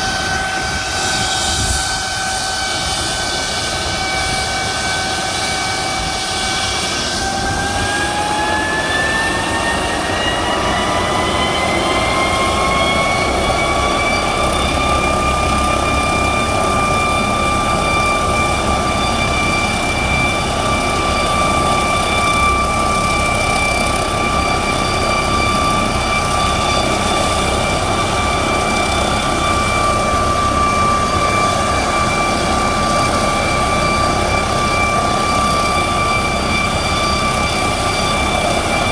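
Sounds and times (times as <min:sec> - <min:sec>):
helicopter turbine whine: 0:00.0 - 0:38.9
rushing rotor noise: 0:00.0 - 0:38.9.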